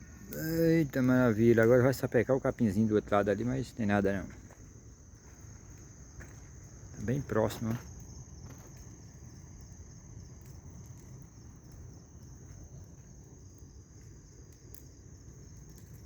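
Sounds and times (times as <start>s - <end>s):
bonfire rumbling: 0.0s - 16.0s
crickets trilling: 0.0s - 16.0s
faint fire crackles: 0.0s - 16.0s.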